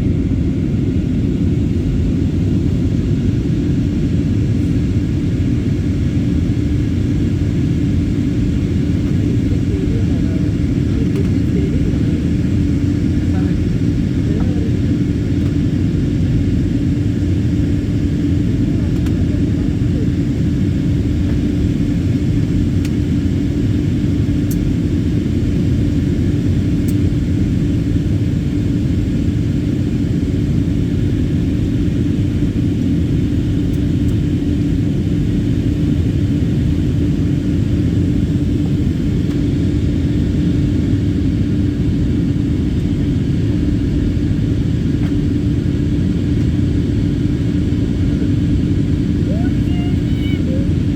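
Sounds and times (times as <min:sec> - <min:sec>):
constant hum: 0:00.0 - 0:50.9
jet engine and airflow rumble: 0:00.0 - 0:50.9.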